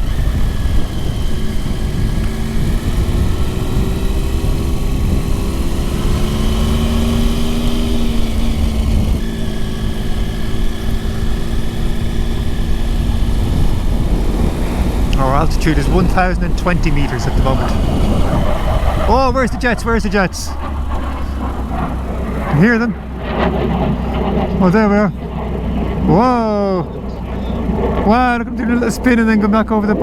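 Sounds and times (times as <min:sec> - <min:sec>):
motorcycle engine cruising: 0:00.0 - 0:30.0
wind rush on microphone: 0:00.0 - 0:30.0.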